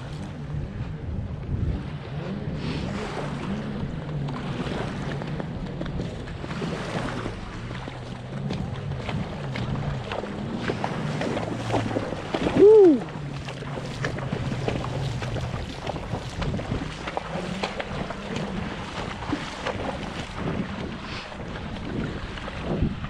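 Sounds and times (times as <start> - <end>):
low engine hum: 0.0 - 23.0
wind buffeting microphone: 0.0 - 23.0.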